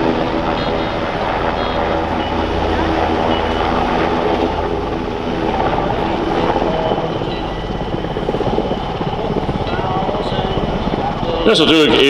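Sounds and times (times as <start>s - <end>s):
helicopter rotor beat: 0.0s - 12.0s
turbine whine: 0.0s - 12.0s.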